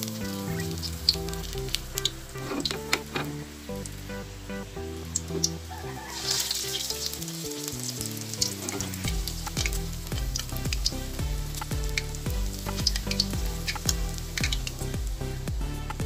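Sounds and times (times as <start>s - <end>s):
deep-frying sizzle and pops: 0.0s - 4.4s, 5.0s - 16.0s
background music: 0.0s - 16.0s.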